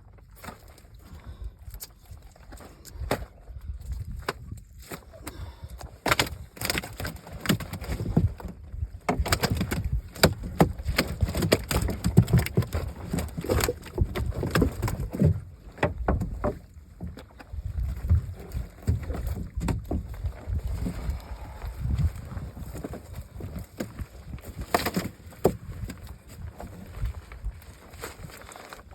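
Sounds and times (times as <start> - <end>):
knocks and clatter in a boat: 0.0 - 28.9.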